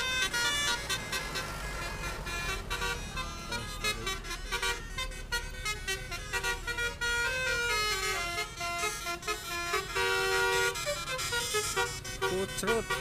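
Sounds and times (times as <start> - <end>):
musical bus air horn tune: 0.0 - 13.0.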